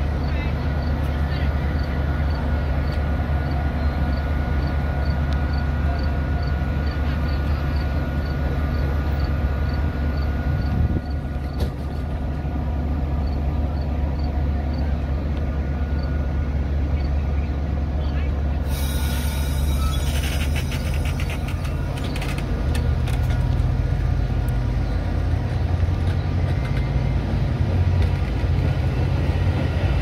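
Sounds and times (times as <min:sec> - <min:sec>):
idling train hum: 0:00.0 - 0:30.0.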